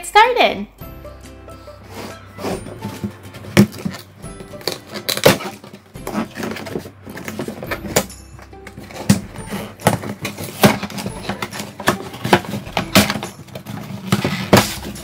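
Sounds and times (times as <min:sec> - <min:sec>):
cardboard box being opened: 0:02.0 - 0:15.0.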